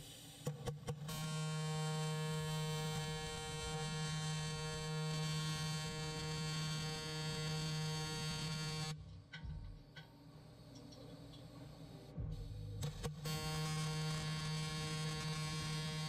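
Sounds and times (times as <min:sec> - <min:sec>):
welding arc buzzing hum: 0:00.0 - 0:09.4, 0:10.7 - 0:16.0.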